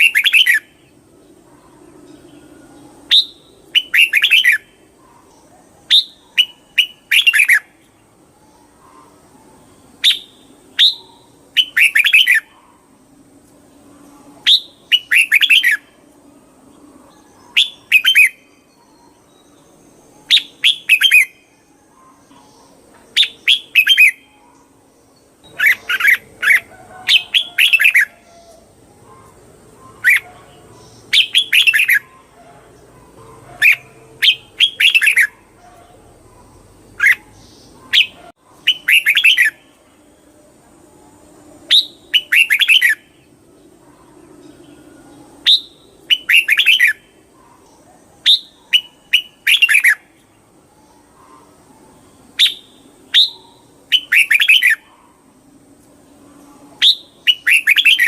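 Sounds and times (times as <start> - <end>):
bird singing warbled phrases: 0.0 - 58.0.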